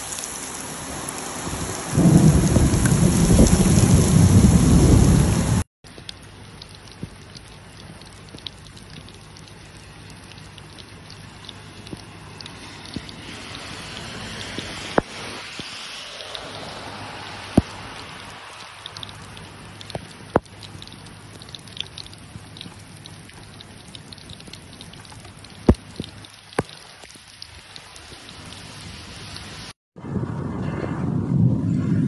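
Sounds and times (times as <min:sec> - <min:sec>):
heavy rain on asphalt: 0:00.0 - 0:29.8
raindrops ticking close by: 0:00.0 - 0:29.8.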